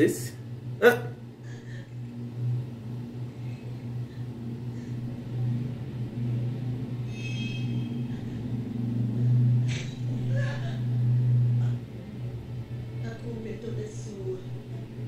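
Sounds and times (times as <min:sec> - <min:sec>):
low rumbling drone: 0:00.0 - 0:15.0.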